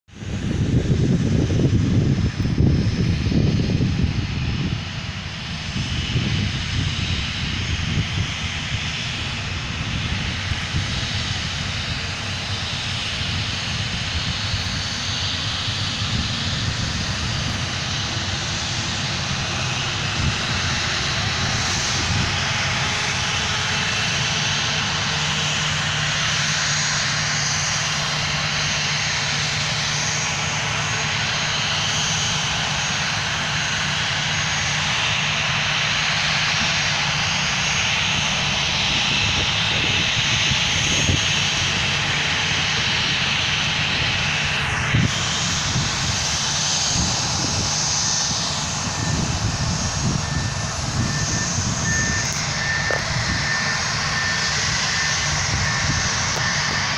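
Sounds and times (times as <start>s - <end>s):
jet engines running: 0.1s - 56.9s.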